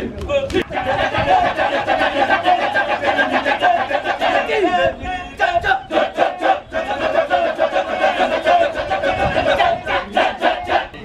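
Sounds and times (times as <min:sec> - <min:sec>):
men chanting in chorus: 0:00.6 - 0:11.0.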